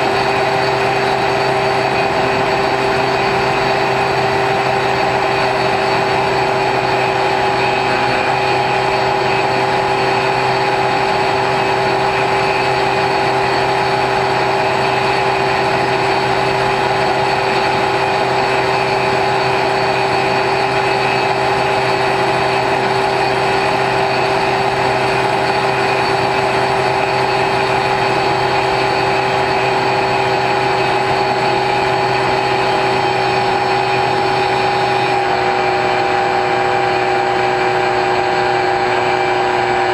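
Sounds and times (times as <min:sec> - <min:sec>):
propeller buzz: 0:00.0 - 0:39.9.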